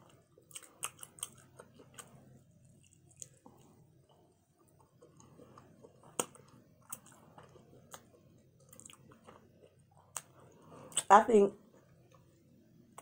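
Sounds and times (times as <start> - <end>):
close chewing and mouth sounds: 0.0 - 13.0.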